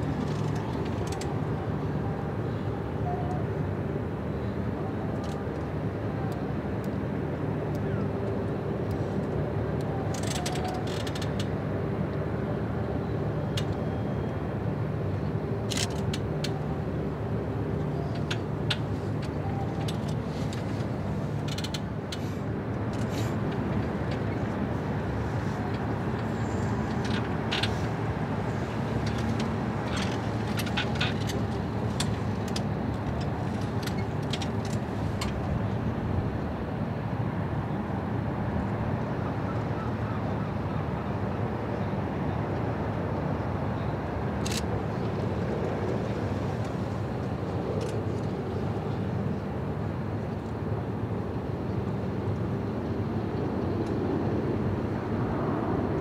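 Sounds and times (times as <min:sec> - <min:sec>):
low mechanical drone with hum: 0:00.0 - 0:56.0.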